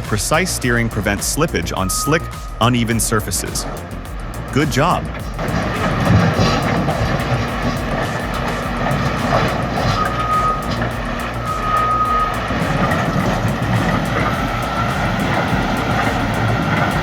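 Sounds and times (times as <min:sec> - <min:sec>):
bulldozer diesel engine and tracks: 0:00.0 - 0:17.0
reversing alarm beeps: 0:00.7 - 0:02.8, 0:04.8 - 0:17.0.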